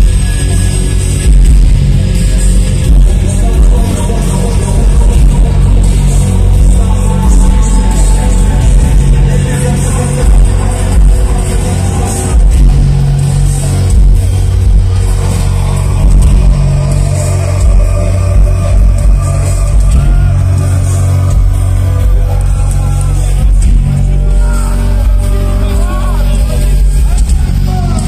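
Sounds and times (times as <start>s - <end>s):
heavy booming bass: 0.0s - 28.0s
loud live band music: 0.0s - 28.0s.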